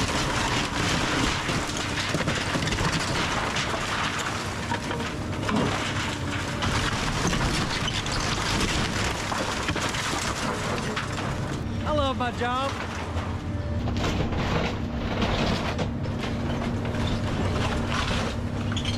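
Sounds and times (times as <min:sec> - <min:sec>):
excavator engine under load: 0:00.0 - 0:18.9
wood and debris cracking: 0:00.0 - 0:18.9.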